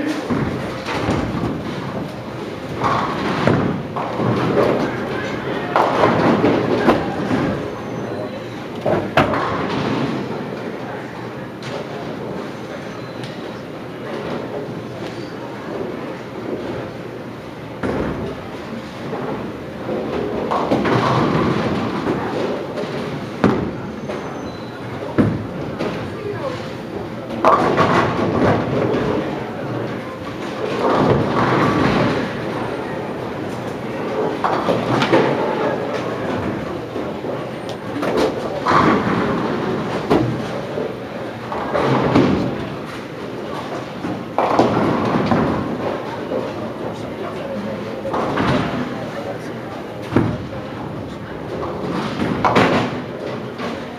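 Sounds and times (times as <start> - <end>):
bowling balls rolling: 0.0 - 53.9
bowling pins clattering: 0.0 - 53.9.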